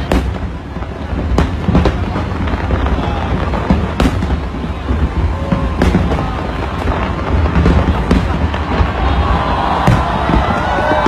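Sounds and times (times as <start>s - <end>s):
firework bangs: 0.0s - 11.0s.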